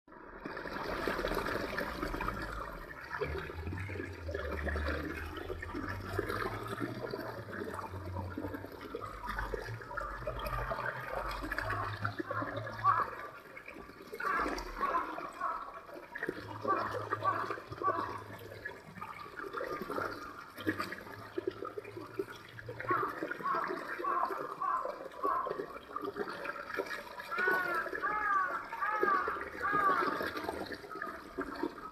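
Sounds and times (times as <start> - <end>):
stream babbling over rocks: 0.6 - 31.9.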